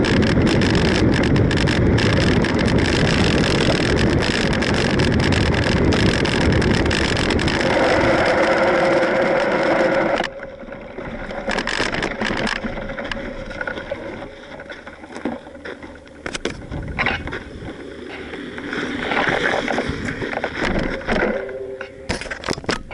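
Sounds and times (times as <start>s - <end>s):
bike rattles and clicks: 0.0s - 22.9s.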